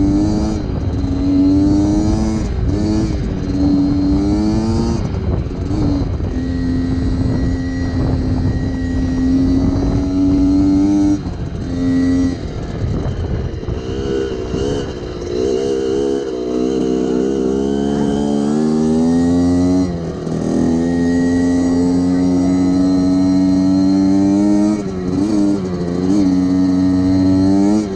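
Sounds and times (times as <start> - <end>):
motorcycle engine under throttle: 0.0 - 27.9.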